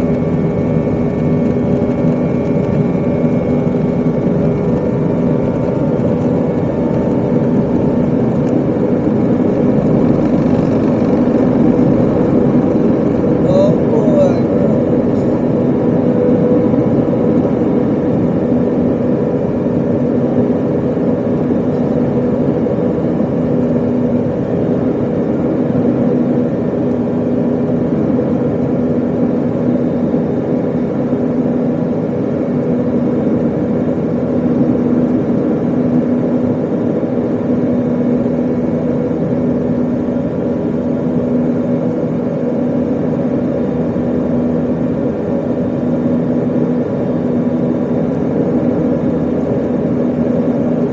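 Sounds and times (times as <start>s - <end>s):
jet engines roaring in cabin: 0.0s - 50.9s.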